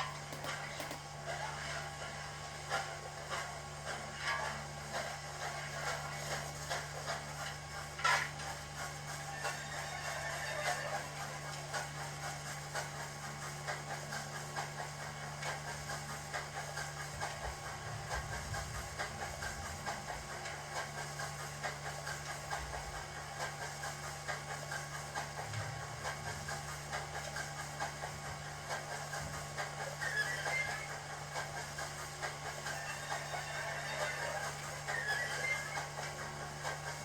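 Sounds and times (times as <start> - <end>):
steam locomotive exhaust chuffs: 0.0 - 37.0.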